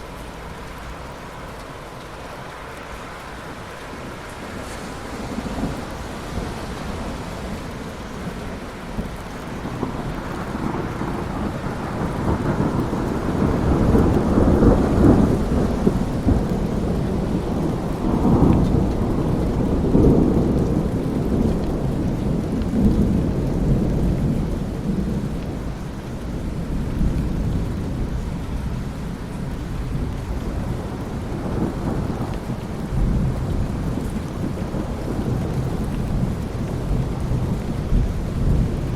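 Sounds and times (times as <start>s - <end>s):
low roll of thunder: 0.0s - 38.9s
steady rain: 0.0s - 38.9s.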